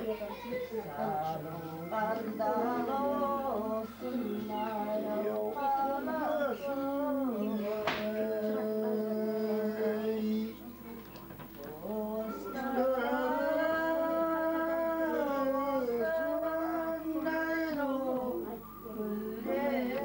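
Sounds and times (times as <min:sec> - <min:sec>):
person singing slow song: 0:00.0 - 0:10.8, 0:11.6 - 0:20.0.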